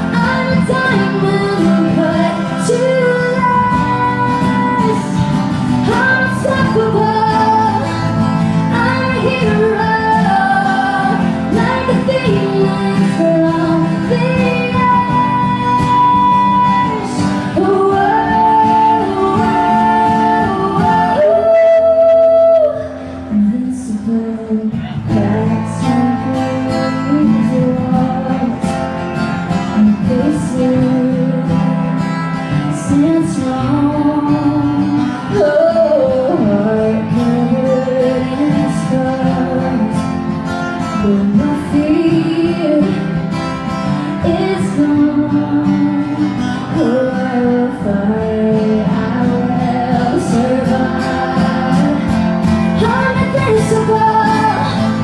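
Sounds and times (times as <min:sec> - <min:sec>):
country-pop band playing: 0:00.0 - 0:55.0
woman singing: 0:00.0 - 0:55.0.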